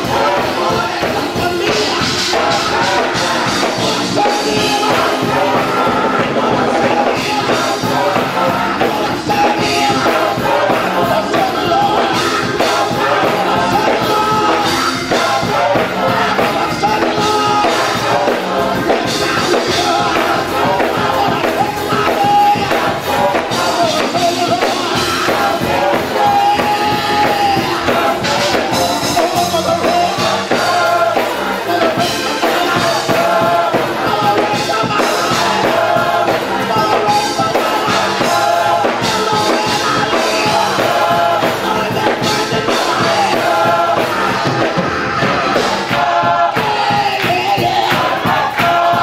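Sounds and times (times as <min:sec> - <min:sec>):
man singing into microphone: 0:00.0 - 0:43.8
gospel choir singing: 0:00.0 - 0:49.0
instrumental accompaniment with beat: 0:00.0 - 0:49.0.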